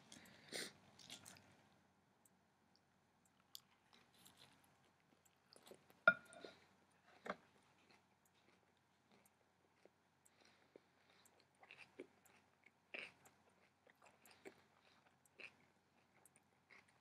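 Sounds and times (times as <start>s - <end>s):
person chewing crunchy food: 3.4s - 17.0s.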